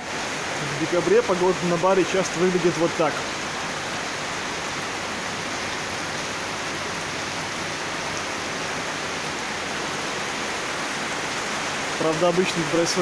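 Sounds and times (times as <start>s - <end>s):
heavy rain on roofs: 0.0s - 13.0s.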